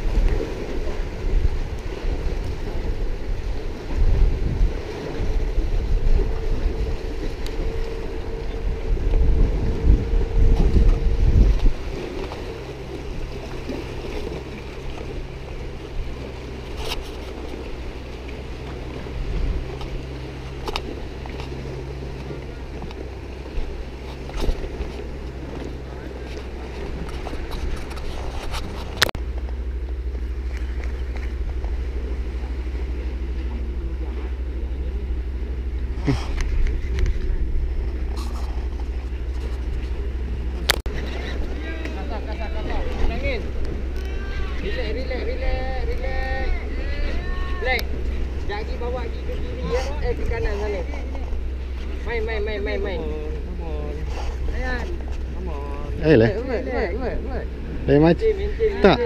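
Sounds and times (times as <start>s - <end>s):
steady low hum: 0.0s - 59.0s
wind buffeting microphone: 0.0s - 59.0s.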